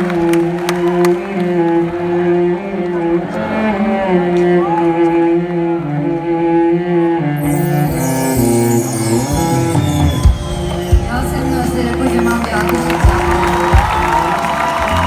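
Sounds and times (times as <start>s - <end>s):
live string-like instrumental music: 0.0s - 15.0s.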